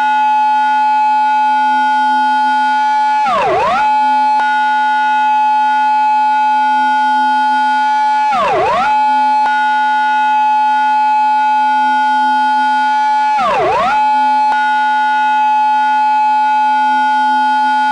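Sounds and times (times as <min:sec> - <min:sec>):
police car siren: 0:00.0 - 0:17.9.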